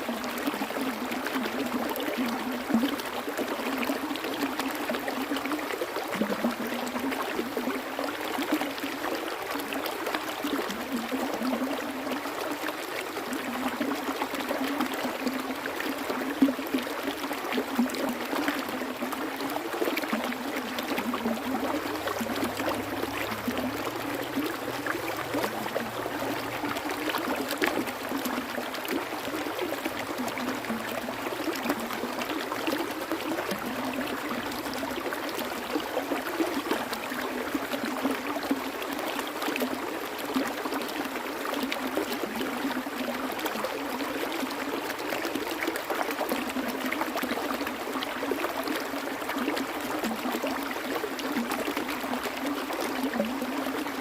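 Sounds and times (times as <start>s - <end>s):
small water splashes: 0.0s - 54.0s
stream water flowing: 0.0s - 54.0s.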